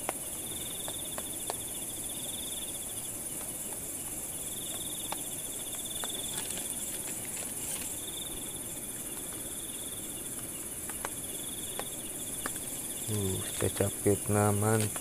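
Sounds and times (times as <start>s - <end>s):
insects hissing: 0.0s - 15.0s
pulsing insect trill: 0.0s - 15.0s.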